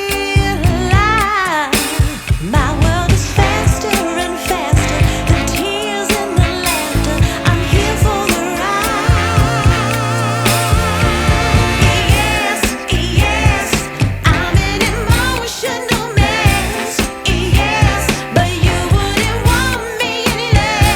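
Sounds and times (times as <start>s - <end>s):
soul pop song with singing: 0.0s - 20.9s.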